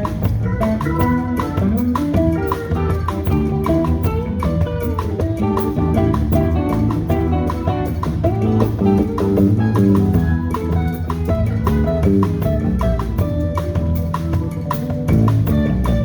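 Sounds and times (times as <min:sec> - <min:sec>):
band playing guitar and bass: 0:00.0 - 0:16.0.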